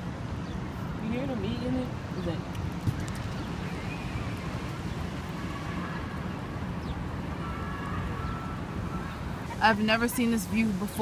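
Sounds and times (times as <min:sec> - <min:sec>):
city traffic rumble: 0:00.0 - 0:11.0
sparrows chirping: 0:00.0 - 0:11.0
wind on microphone: 0:00.0 - 0:11.0.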